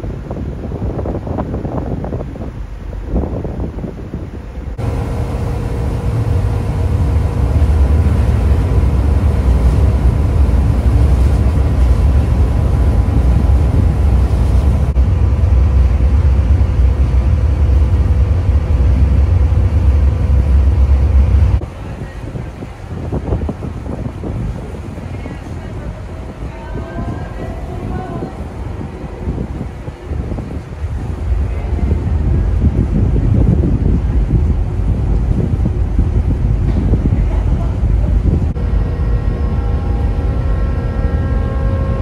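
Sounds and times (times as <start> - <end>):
ship engine rumble: 0.0 - 42.0
water noise: 0.0 - 42.0
wind: 0.0 - 42.0
thin steady hum: 4.2 - 22.8, 24.4 - 42.0.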